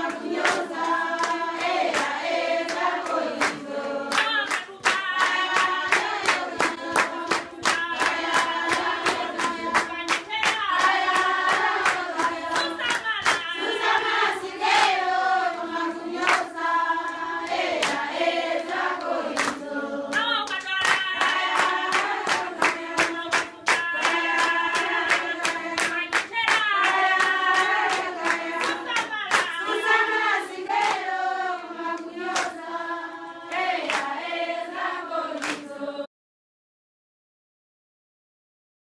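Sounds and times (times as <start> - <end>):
hand clapping: 0.0 - 15.6, 16.2 - 32.7, 33.5 - 34.3, 35.4 - 35.7
women singing together: 0.0 - 36.1.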